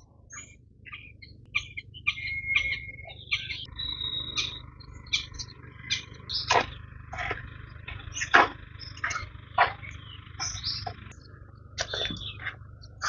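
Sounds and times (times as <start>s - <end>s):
birds chirping: 0.0s - 13.0s
low steady rumble: 0.0s - 13.0s.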